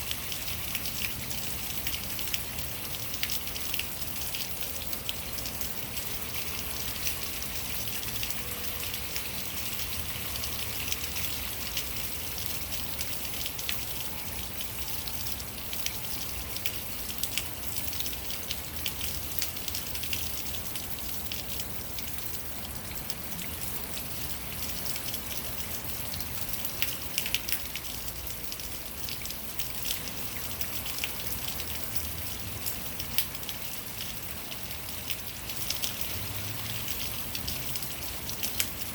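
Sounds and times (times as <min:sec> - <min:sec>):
sharp water drips: 0:00.0 - 0:38.9
water splashing down rain chain: 0:00.0 - 0:38.9.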